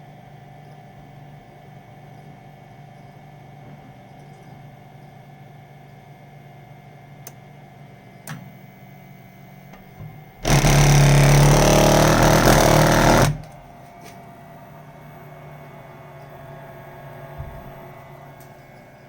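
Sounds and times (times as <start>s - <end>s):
boiler vibrating buzz: 0.0s - 19.0s.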